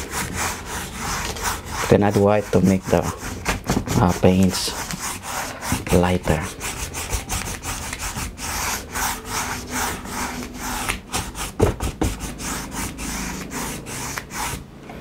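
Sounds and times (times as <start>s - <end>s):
paintbrush scrubbing on canvas: 0.0s - 14.6s.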